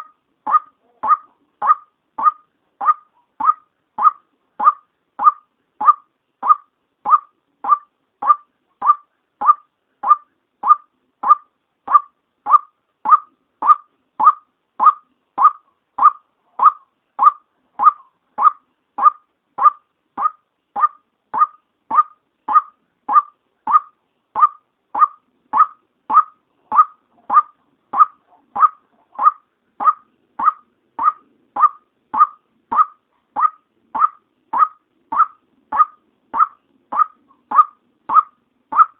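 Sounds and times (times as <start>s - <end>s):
waterhen call: 0.0s - 38.9s.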